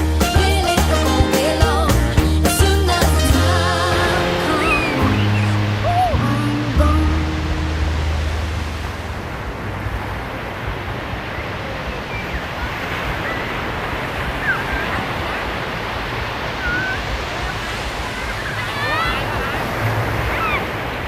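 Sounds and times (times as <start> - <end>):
sea surf washing: 0.0 - 21.0.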